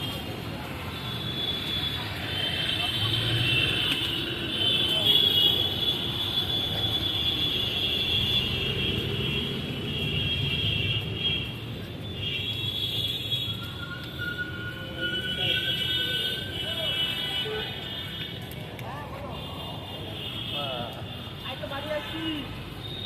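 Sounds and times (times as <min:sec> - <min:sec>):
traffic rumbling: 0:00.0 - 0:23.0.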